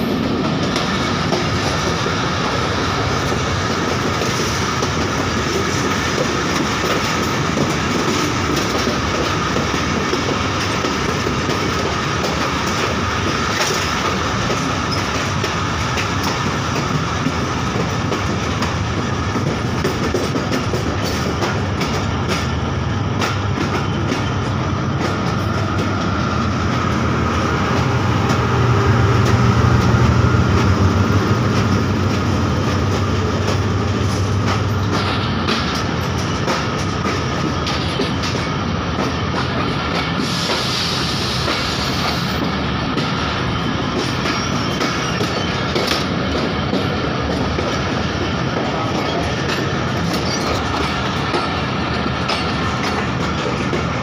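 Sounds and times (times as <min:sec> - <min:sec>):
wheels clacking over rail joints: 0:00.0 - 0:40.4, 0:41.4 - 0:54.0
train wheels rumbling on rail: 0:00.0 - 0:54.0.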